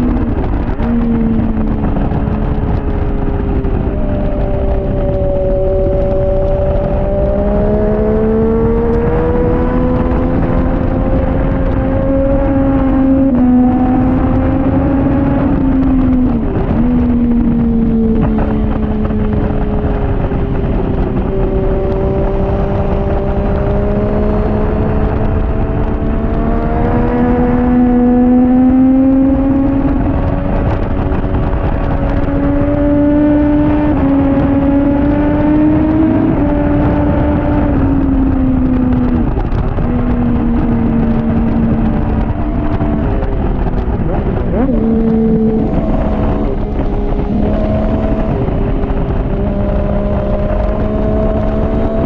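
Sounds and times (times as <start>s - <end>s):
motorcycle engine revving high: 0.0s - 52.0s
wind noise: 0.0s - 52.0s.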